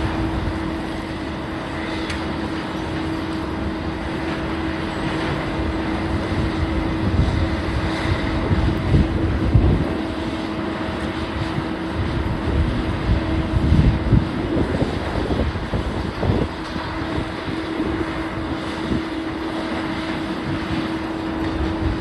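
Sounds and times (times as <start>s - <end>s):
demolition machinery engine hum: 0.0s - 22.0s.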